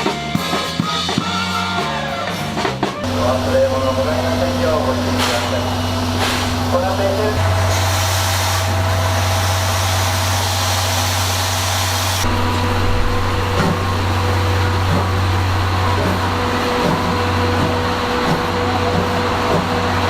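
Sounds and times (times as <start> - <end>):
locomotive engine hum: 0.0 - 20.0.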